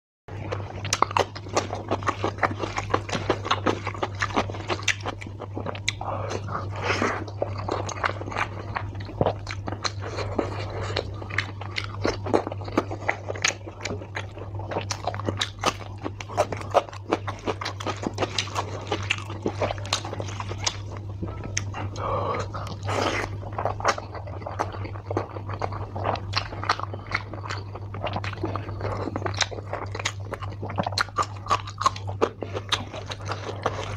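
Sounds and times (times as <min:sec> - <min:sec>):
person chewing food: 0:00.3 - 0:33.9
steady low hum: 0:00.3 - 0:33.9.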